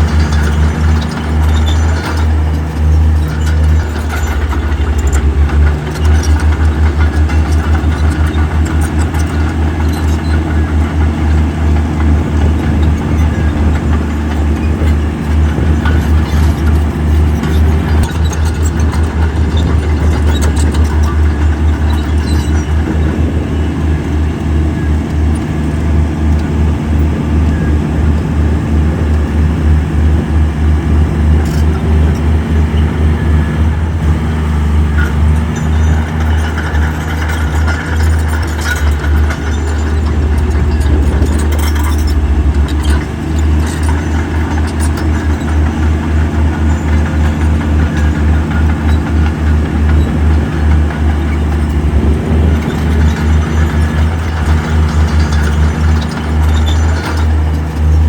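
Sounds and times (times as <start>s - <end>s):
metal clanks: 0.0s - 28.3s, 31.3s - 58.0s
diesel engine throbbing: 0.0s - 58.0s.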